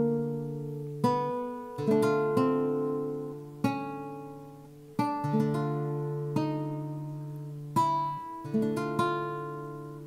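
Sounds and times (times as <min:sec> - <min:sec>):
guitar chord ringing: 0:00.0 - 0:10.0
plucked guitar notes: 0:00.0 - 0:10.0.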